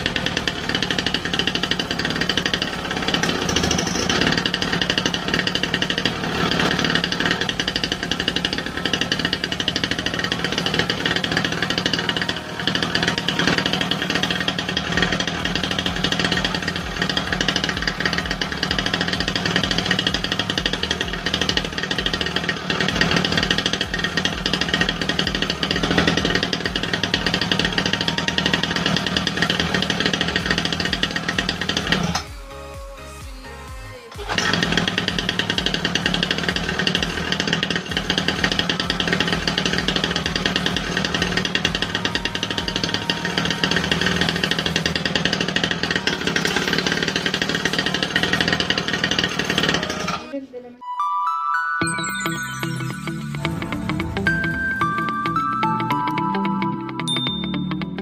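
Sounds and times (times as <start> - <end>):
small engine running steadily: 0.0 - 33.4, 34.1 - 50.3.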